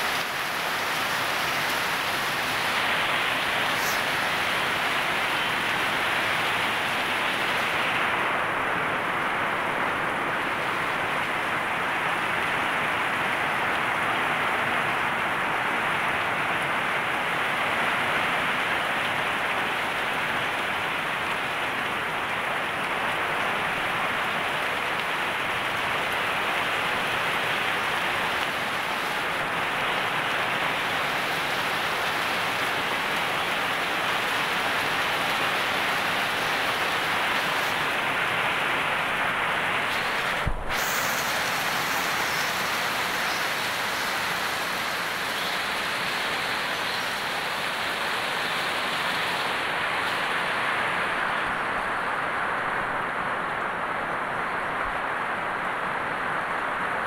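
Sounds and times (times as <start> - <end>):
heavy rain on leafy plants: 0.0 - 57.0.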